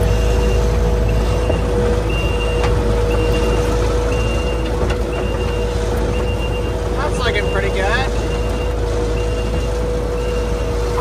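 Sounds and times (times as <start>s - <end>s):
backup alarm beeping: 0.0s - 11.0s
engine running with whine: 0.0s - 11.0s.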